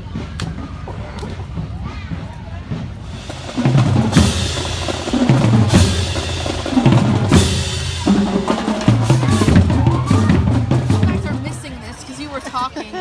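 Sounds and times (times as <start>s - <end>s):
snare and bass drums beating: 0.0s - 12.1s
marching band playing: 0.0s - 13.0s.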